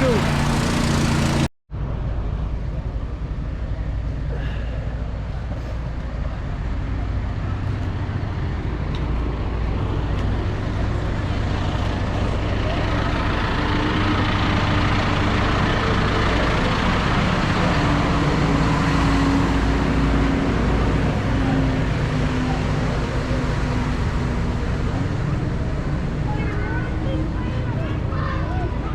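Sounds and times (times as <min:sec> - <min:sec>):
tractor diesel engine running: 0:00.0 - 0:01.5, 0:04.9 - 0:28.9.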